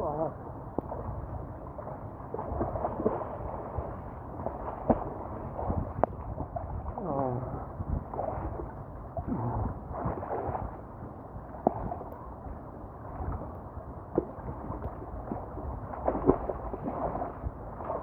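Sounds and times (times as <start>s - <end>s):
water splashes: 0.0s - 12.1s, 12.9s - 18.0s
water sloshing and gurgling: 0.0s - 18.0s.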